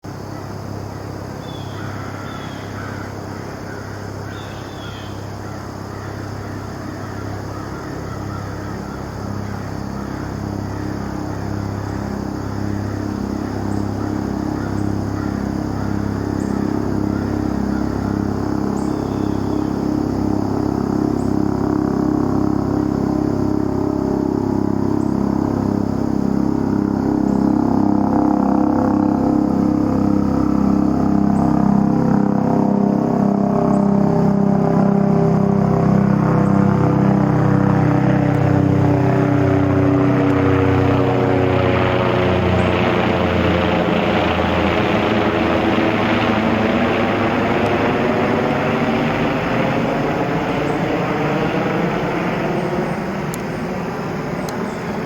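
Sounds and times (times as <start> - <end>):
helicopter rotor in flight: 0.0 - 55.0.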